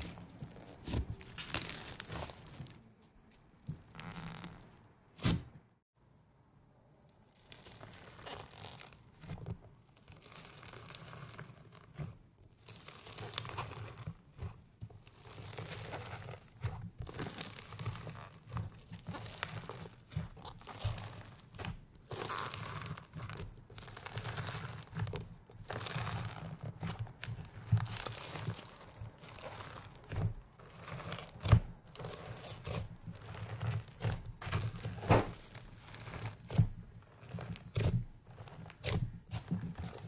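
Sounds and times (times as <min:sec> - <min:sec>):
crunchy slime crackling and popping: 0:00.0 - 0:02.8, 0:07.2 - 0:40.0.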